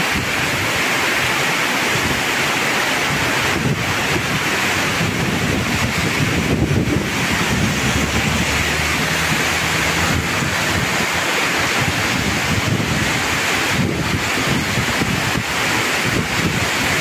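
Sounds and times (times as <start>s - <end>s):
heavy rain pouring on road: 0.0s - 17.0s
rain on corrugated sheet roof: 0.0s - 17.0s
vehicles passing on wet road: 0.0s - 17.0s.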